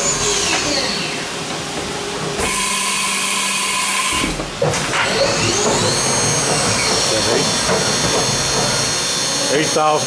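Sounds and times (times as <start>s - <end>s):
machine spindle whine: 0.0s - 10.0s.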